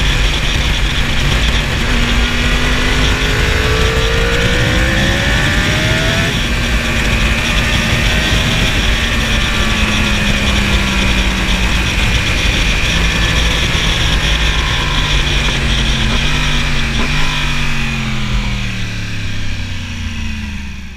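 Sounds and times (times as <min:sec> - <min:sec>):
wind on microphone: 0:00.0 - 0:20.6
motorcycle engine running: 0:00.0 - 0:20.9.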